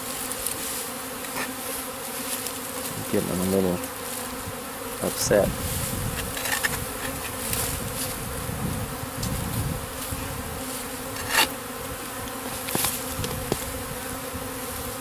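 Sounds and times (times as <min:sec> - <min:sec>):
bee swarm buzzing: 0:00.0 - 0:15.0.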